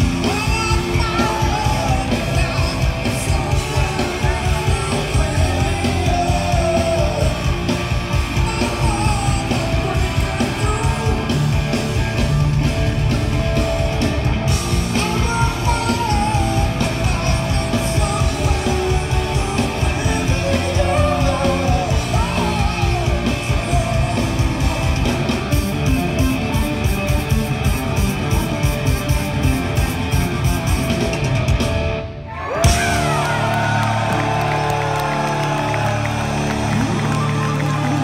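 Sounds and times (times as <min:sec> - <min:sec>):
dense drumming: 0:00.0 - 0:31.9
live rock band playing: 0:00.0 - 0:38.0.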